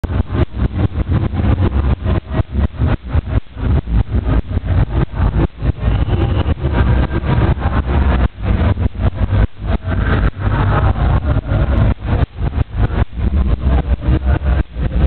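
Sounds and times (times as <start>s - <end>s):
bass-heavy music from car stereo: 0.0s - 15.0s.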